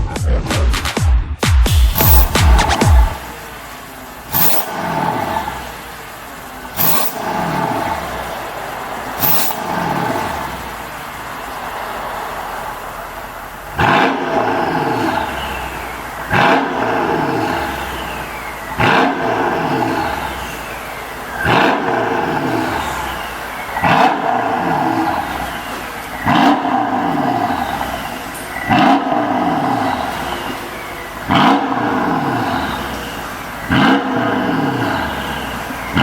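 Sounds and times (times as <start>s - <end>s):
car engine idling: 0.7s - 36.0s
engine revs: 0.7s - 36.0s.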